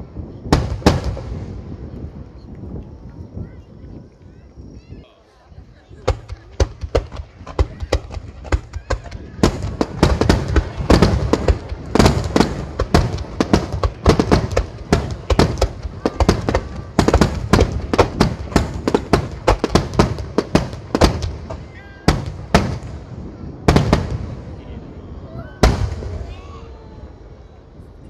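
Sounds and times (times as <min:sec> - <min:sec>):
fireworks booming and cracking: 0:00.0 - 0:02.4, 0:05.9 - 0:26.6.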